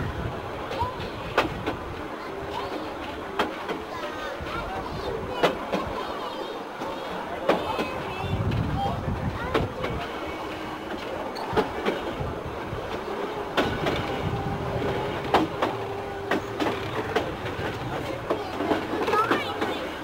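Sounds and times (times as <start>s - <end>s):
steady train rumble: 0.0s - 20.0s
train wheels clacking on rail joints: 0.7s - 6.2s, 6.8s - 20.0s.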